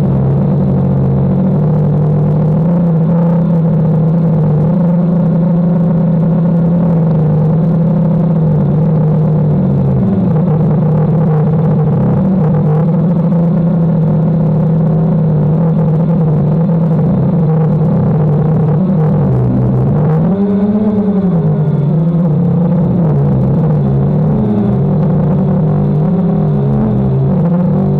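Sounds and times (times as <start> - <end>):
drone propellers humming: 0.0 - 27.9.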